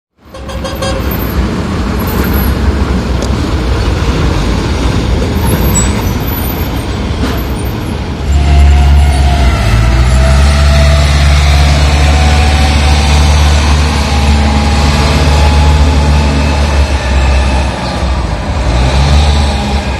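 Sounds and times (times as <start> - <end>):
road noise: 0.1 - 19.9
truck diesel engine rumble: 0.2 - 19.9
engine whine: 1.2 - 19.9.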